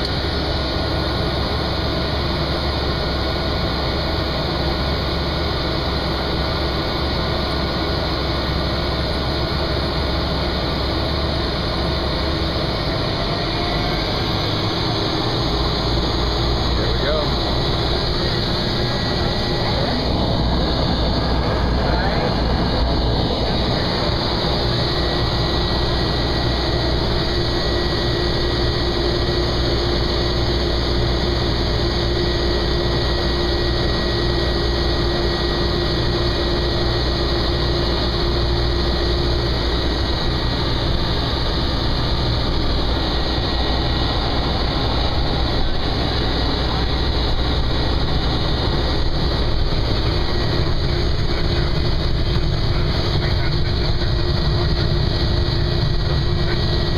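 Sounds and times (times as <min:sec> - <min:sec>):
propeller airplane engine drone: 0:00.0 - 0:56.9.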